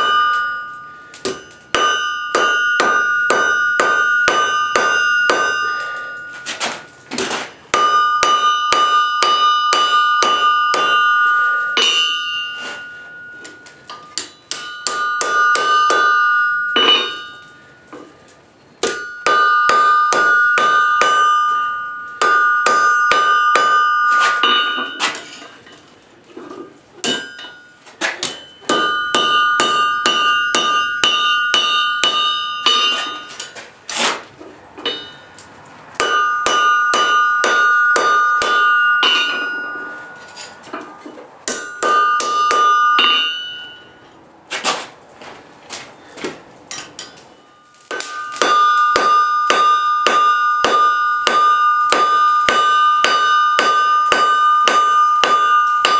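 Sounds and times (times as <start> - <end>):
hammer striking ringing anvil: 0.0 - 25.8, 27.0 - 33.6, 34.8 - 35.4, 36.0 - 44.2, 46.7 - 55.9.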